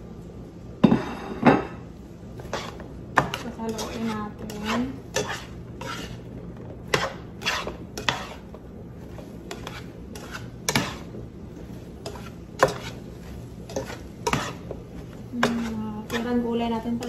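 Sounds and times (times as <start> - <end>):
spatula scraping frying pan: 2.4 - 17.0.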